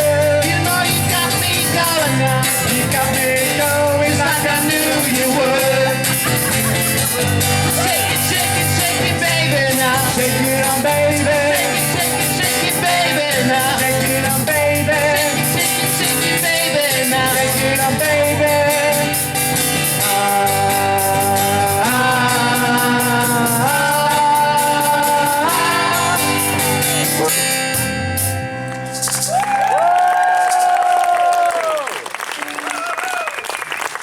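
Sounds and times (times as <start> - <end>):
held vocal notes: 0.0 - 27.5
live rock band playing: 0.0 - 29.7.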